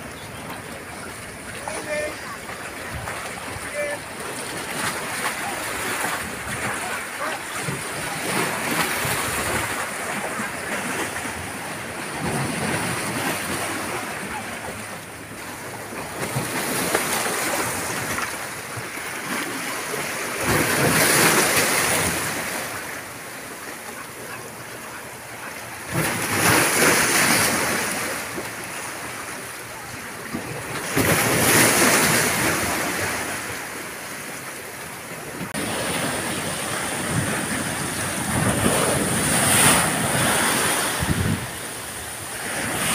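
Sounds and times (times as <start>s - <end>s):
waves breaking: 0.0s - 42.9s
waves washing against rocks: 0.0s - 42.9s.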